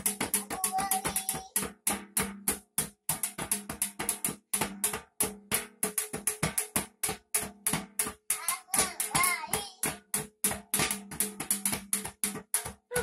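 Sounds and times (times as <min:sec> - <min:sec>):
hands drumming on metal tin: 0:00.0 - 0:13.0.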